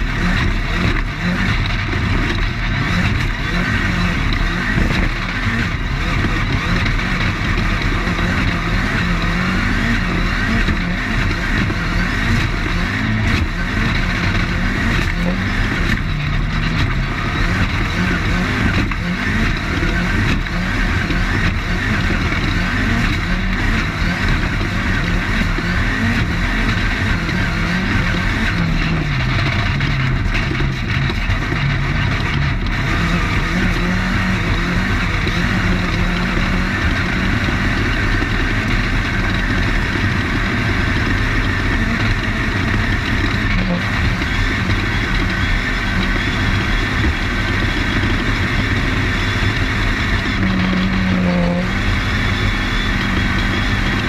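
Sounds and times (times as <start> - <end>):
chassis noise: 0.0 - 54.0
race car engine under load: 0.0 - 54.0.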